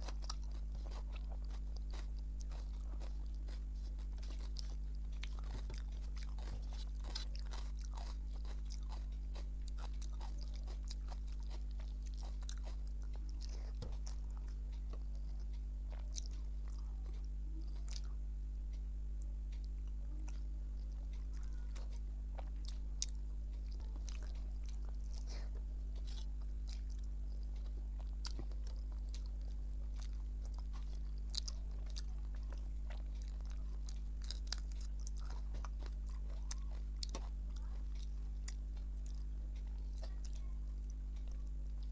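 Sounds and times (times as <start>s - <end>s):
close chewing with wet mouth clicks: 0.0s - 41.9s
crunchy bites: 0.0s - 41.9s
steady low hum: 0.0s - 41.9s.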